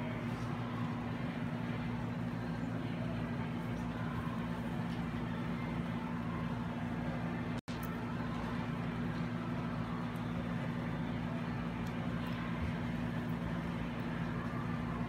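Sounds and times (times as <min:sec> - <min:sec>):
faint indistinct chatter: 0:00.0 - 0:15.0
low mechanical hum: 0:00.0 - 0:15.0.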